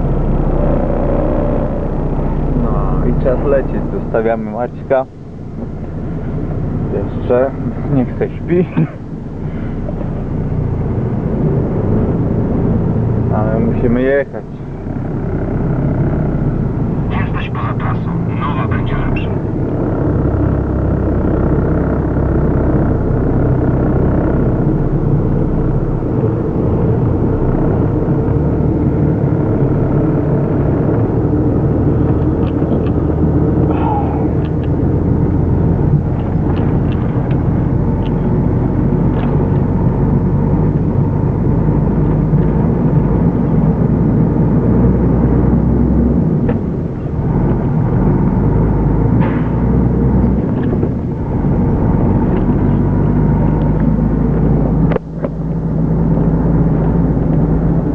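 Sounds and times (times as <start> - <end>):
diesel engine low rumble: 0.0 - 57.9.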